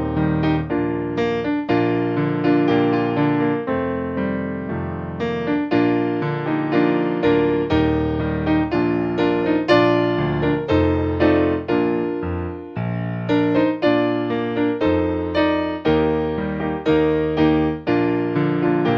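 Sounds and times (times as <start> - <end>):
slow piano melody over chords: 0.0 - 18.9.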